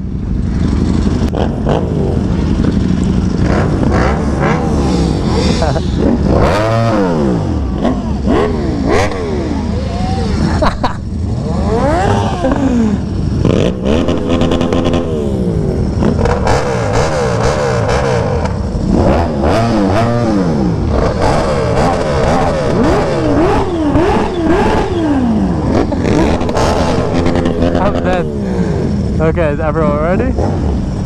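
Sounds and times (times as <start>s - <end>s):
motorcycles revving: 0.0s - 31.0s.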